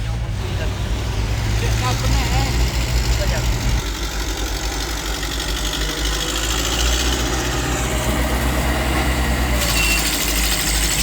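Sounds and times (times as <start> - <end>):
bulldozer diesel engine throbbing: 0.0 - 11.0.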